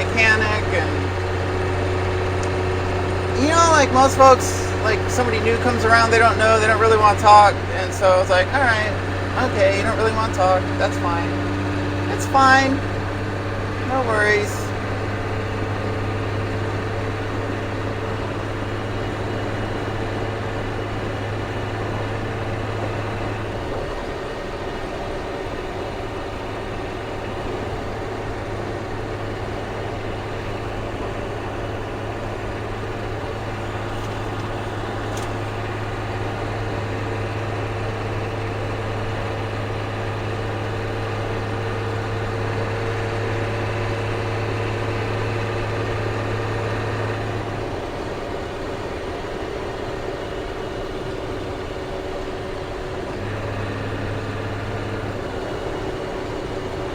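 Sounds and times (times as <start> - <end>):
diesel truck engine drone: 0.0 - 56.9.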